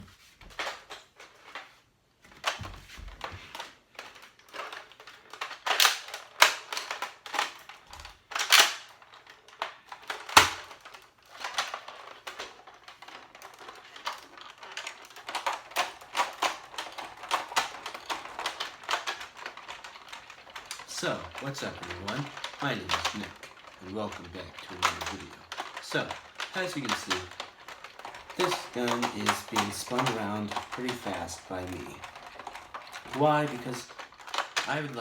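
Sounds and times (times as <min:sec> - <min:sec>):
plastic toy blaster clattering: 0:02.4 - 0:35.0.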